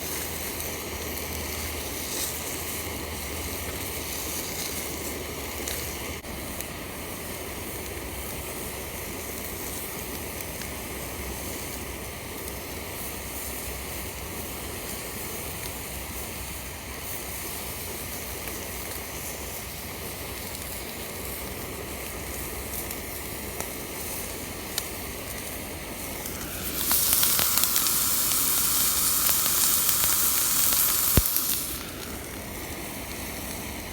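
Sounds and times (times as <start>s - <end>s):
meat sizzling in a pan: 0.0s - 33.9s
steady hiss: 0.0s - 33.9s.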